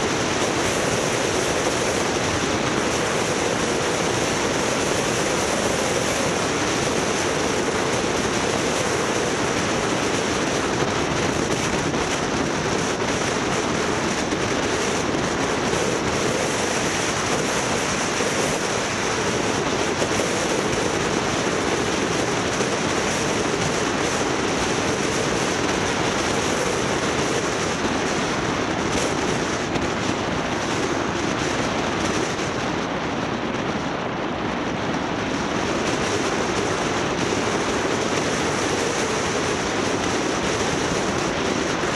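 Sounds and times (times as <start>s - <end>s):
road noise from vehicle: 0.0s - 41.9s
wind rushing: 0.0s - 41.9s.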